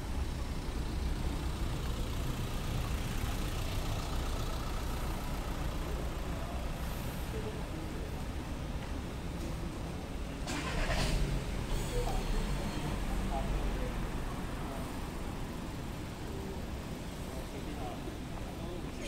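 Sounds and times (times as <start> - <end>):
car engine idling: 0.0 - 18.8
street traffic rumble: 0.0 - 19.0.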